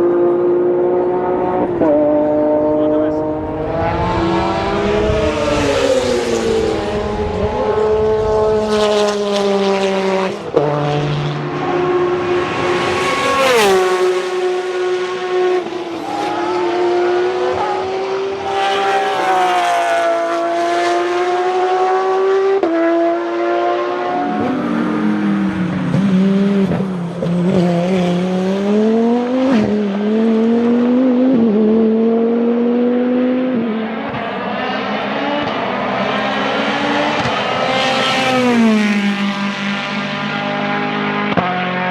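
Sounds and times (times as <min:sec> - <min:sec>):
race car engines revving: 0:00.0 - 0:41.9.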